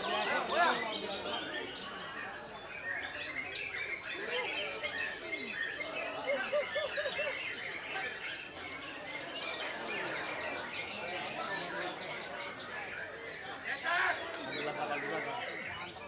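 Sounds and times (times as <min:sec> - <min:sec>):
birds singing chirps and whistles: 0:00.0 - 0:16.0.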